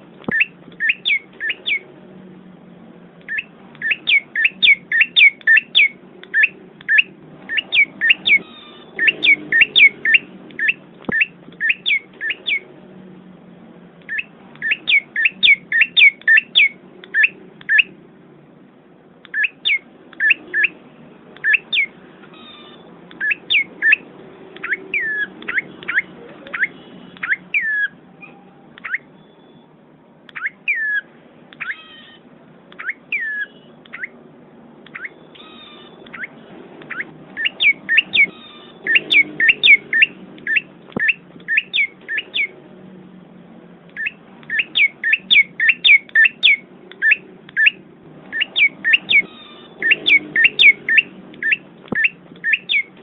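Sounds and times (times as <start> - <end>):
small bird chirping: 0.2 - 1.9, 3.3 - 12.7, 14.0 - 18.0, 19.2 - 20.8, 21.4 - 29.7, 30.3 - 34.2, 34.8 - 42.6, 43.9 - 53.0.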